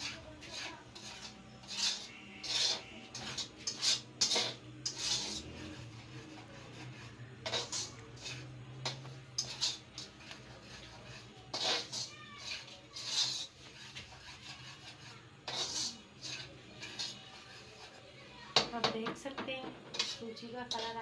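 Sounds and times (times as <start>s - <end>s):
spatula scraping semolina in pan: 0.0s - 21.0s.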